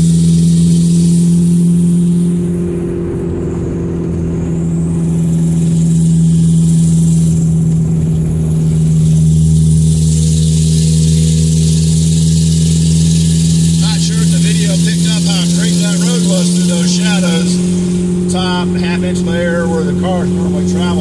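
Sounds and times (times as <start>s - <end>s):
car engine and exhaust drone: 0.0s - 21.0s.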